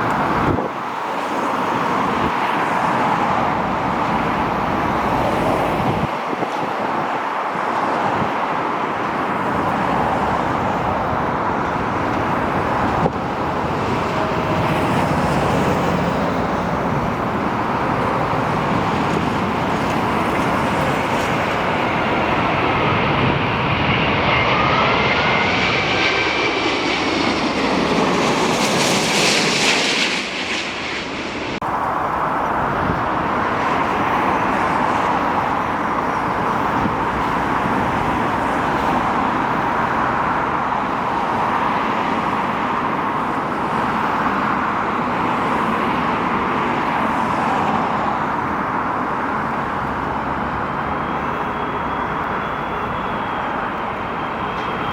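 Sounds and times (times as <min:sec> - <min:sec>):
jet engines passing: 0:00.0 - 0:54.9.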